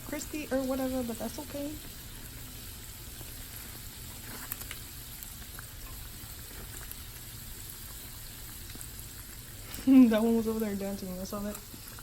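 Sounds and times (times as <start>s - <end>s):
faint crackles: 0.0s - 12.0s
hot oil sizzling and bubbling: 0.0s - 12.0s.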